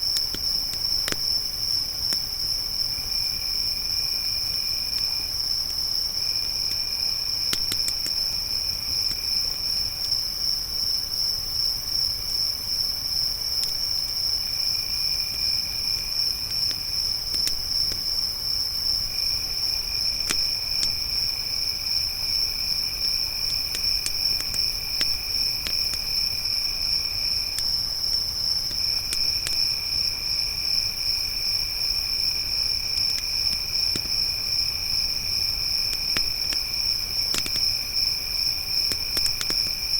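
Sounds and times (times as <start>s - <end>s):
campfire crackling: 0.0s - 10.5s, 13.6s - 39.9s.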